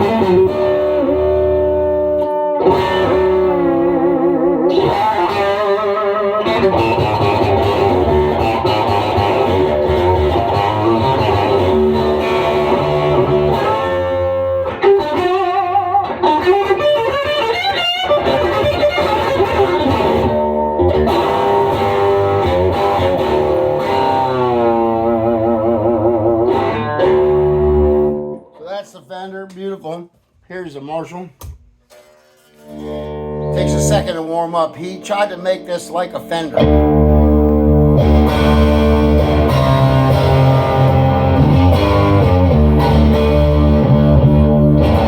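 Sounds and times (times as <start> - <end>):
electric guitar lead with bends: 0.0 - 28.5, 32.7 - 34.1, 36.6 - 45.0.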